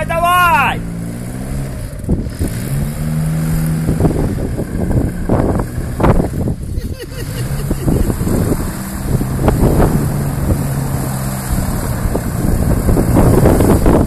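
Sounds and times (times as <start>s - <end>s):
propeller engine running: 0.0s - 14.0s
wind buffeting microphone: 0.8s - 14.0s.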